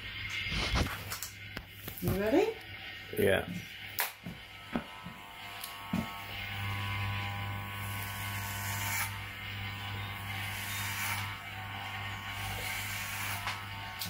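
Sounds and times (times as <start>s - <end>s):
electric hair clippers buzzing: 1.0s - 14.0s.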